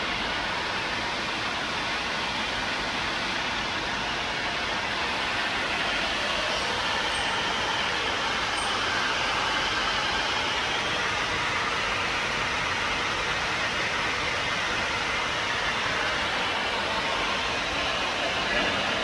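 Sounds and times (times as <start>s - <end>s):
machine hissing: 0.4s - 19.0s.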